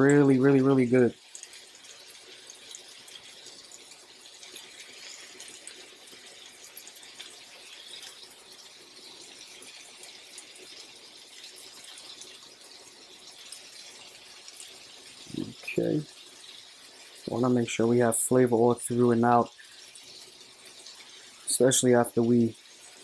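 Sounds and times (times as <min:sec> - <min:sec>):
burger patties sizzling: 0:00.0 - 0:23.0.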